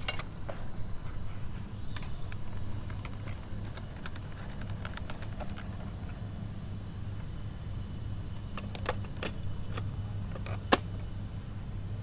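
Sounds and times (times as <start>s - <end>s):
faint high whine: 0.0s - 12.0s
low machine hum: 0.0s - 12.0s.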